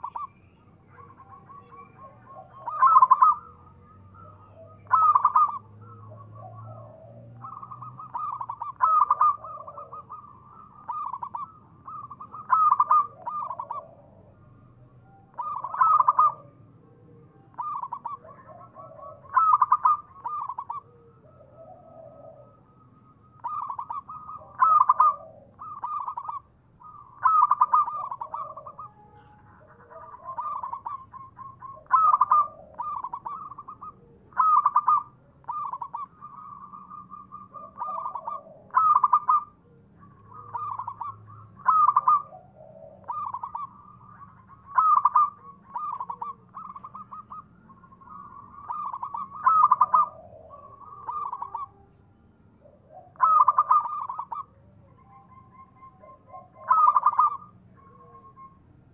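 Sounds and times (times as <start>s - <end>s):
dove cooing: 0.0s - 58.9s.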